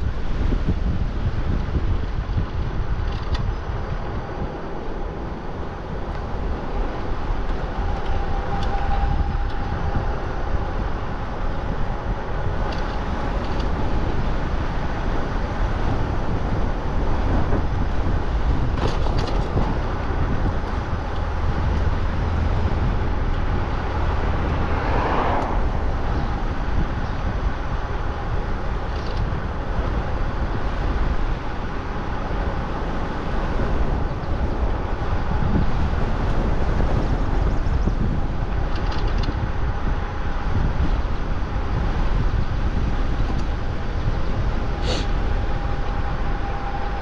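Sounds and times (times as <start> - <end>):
tyre and road rumble: 0.0 - 47.0
wind buffeting microphone: 0.0 - 47.0.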